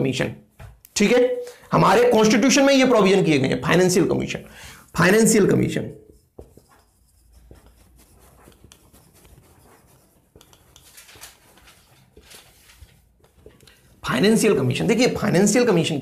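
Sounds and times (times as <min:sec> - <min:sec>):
marker scratching on whiteboard: 0:02.0 - 0:15.8.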